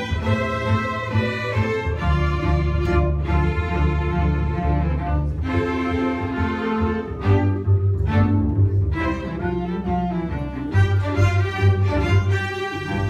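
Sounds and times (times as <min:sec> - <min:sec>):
string ensemble bowed notes: 0:00.0 - 0:13.0.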